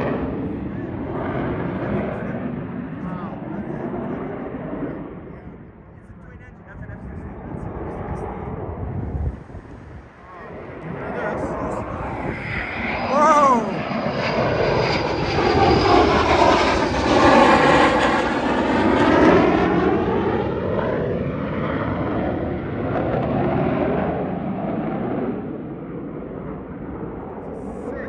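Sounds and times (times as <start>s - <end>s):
fighter jet roar passing overhead: 0.0s - 28.0s.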